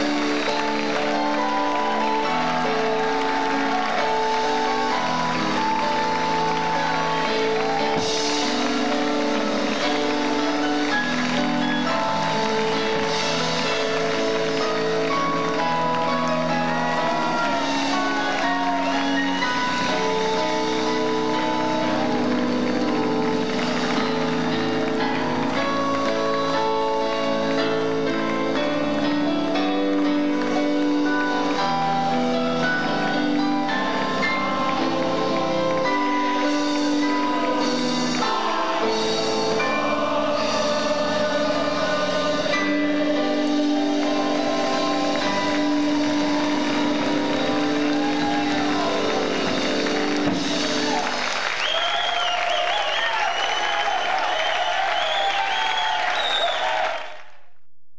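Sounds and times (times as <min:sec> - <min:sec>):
instrumental stage music: 0:00.0 - 0:57.2
audience applause and cheering: 0:00.0 - 0:57.6.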